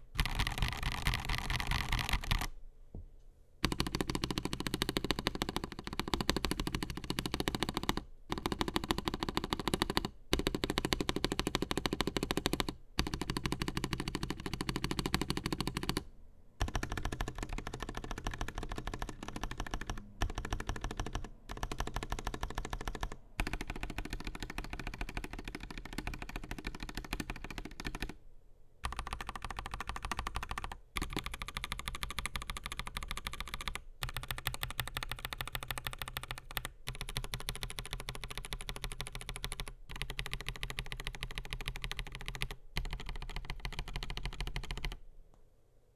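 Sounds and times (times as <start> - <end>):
mechanical keyboard typing: 0.0 - 2.5, 3.6 - 28.2, 28.8 - 45.0.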